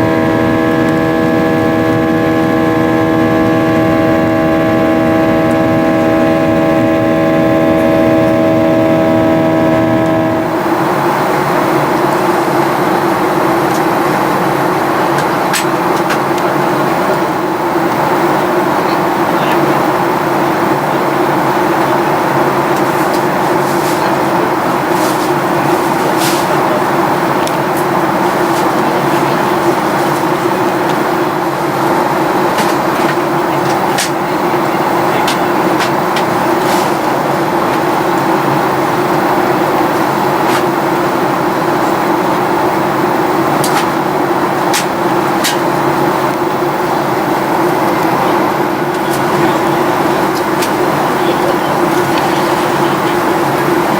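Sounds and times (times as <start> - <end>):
jet engine cabin hum: 0.0 - 53.9.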